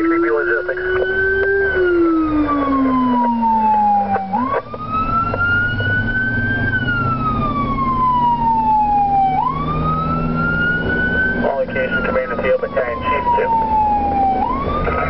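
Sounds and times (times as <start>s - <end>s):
electronic siren wailing: 0.0s - 15.0s.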